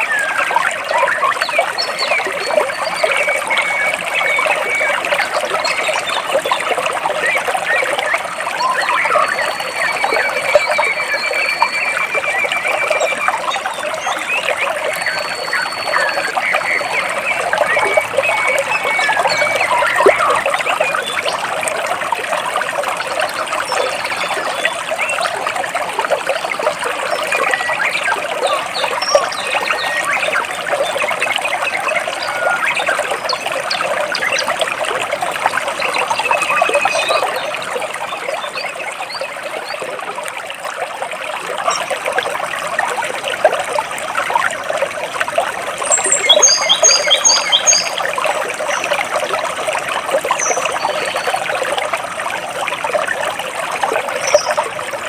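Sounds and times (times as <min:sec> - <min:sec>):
water trickling between rocks: 0:00.0 - 0:55.0.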